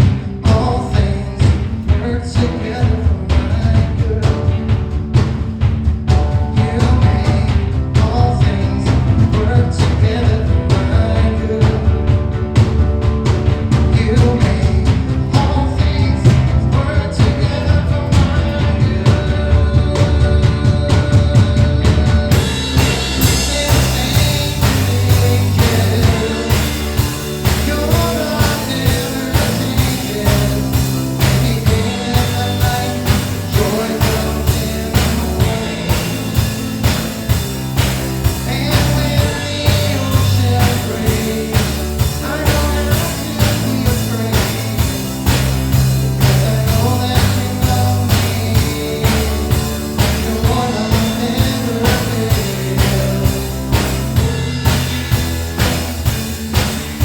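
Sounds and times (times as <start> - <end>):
person singing: 0.0 - 4.7, 6.4 - 12.4, 13.8 - 54.9
drum kit beat: 0.0 - 57.0
rock band playing: 0.0 - 57.0.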